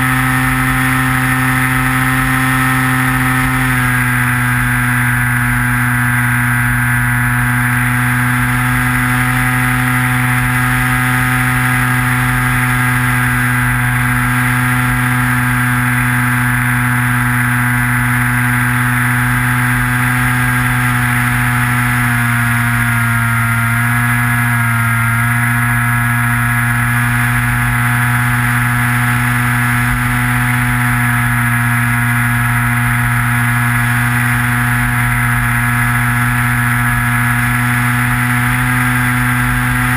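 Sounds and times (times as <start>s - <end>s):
model plane propeller whine: 0.0s - 39.9s.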